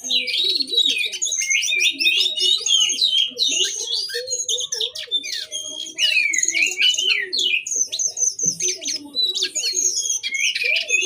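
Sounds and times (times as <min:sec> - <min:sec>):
songbird singing rapid chirps: 0:00.0 - 0:11.0.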